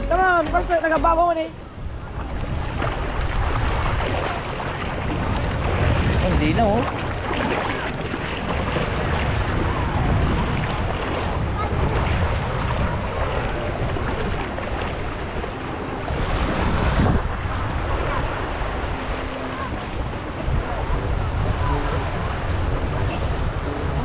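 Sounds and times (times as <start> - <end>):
sea waves washing on shore: 0.0 - 24.0
wind buffeting microphone: 0.0 - 24.0.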